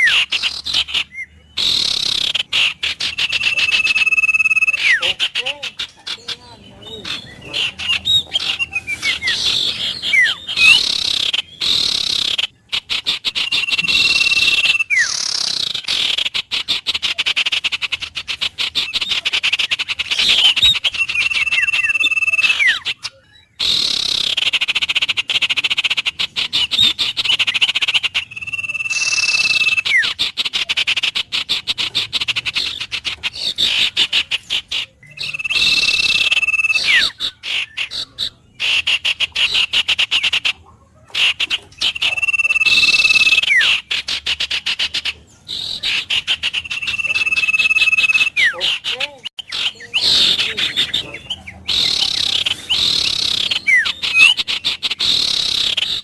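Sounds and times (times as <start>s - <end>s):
bird whistle: 0.0s - 56.0s
wild birds calling: 0.0s - 56.0s.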